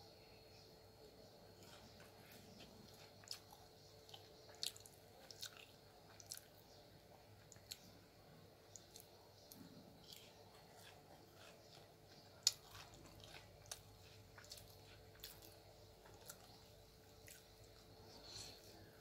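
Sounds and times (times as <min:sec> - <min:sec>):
soft chewing: 0:00.5 - 0:19.0.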